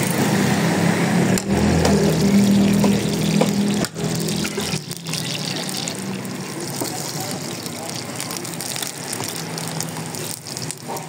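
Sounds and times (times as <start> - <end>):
oil sizzling on hot griddle: 1.5 - 11.0.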